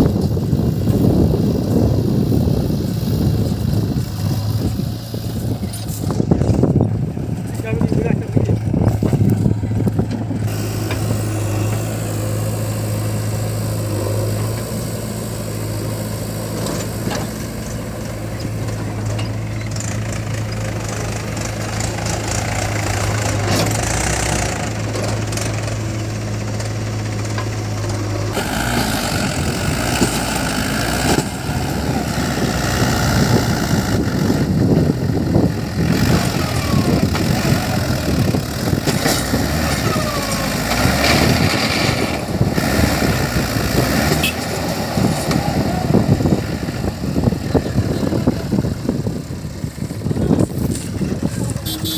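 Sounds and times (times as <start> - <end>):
diesel engines running: 0.0 - 51.9.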